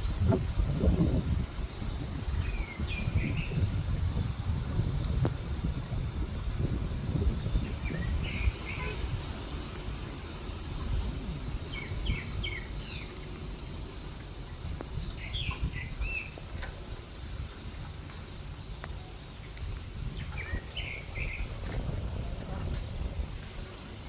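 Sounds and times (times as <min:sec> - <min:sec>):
steady low rumble: 0:00.0 - 0:24.0
small birds chirping: 0:01.7 - 0:05.2, 0:06.6 - 0:24.0.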